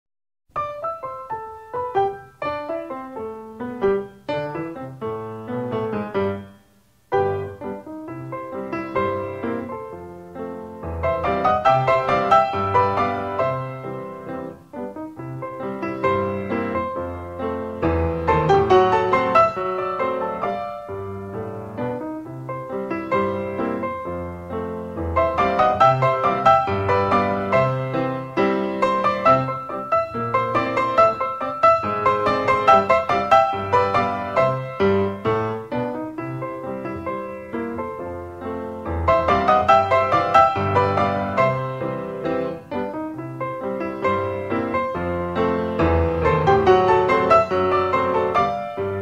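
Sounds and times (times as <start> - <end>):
piano melody: 0.5 - 49.0.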